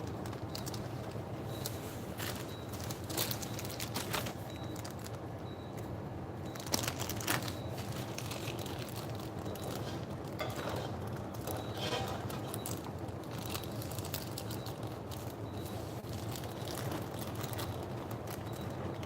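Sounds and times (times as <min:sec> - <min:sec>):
clicks and knocks of food preparation: 0:00.0 - 0:19.0
low background hum: 0:00.0 - 0:19.0.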